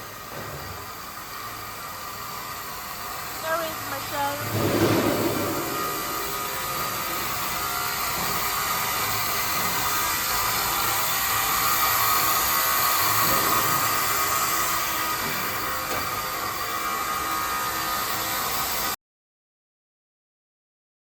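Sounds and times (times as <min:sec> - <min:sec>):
roll forming machine hissing: 0:00.0 - 0:18.9.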